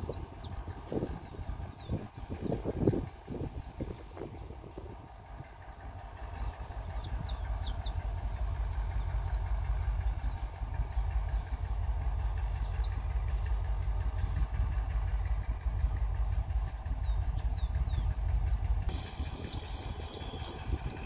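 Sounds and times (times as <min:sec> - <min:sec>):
diesel locomotive engine rumbling: 0:00.0 - 0:21.0
birds chirping: 0:03.2 - 0:21.0.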